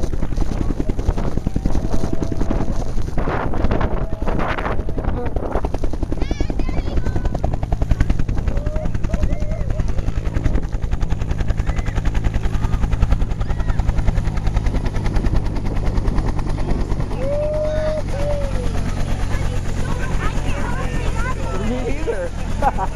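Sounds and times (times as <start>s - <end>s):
helicopter rotor chopping: 0.0s - 22.9s.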